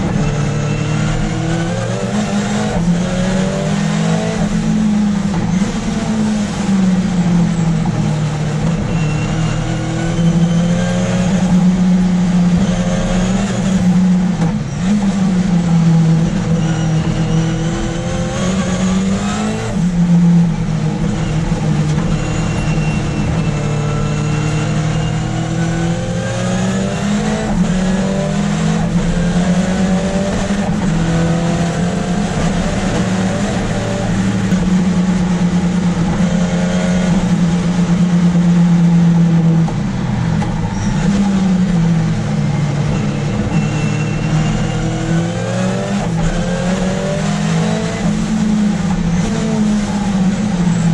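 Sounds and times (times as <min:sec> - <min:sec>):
car engine revving in cabin: 0:00.0 - 0:50.9.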